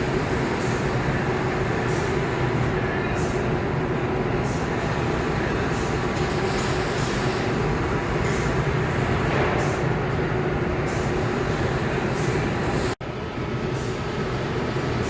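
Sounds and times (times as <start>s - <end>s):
industrial machinery running: 0.0s - 15.0s.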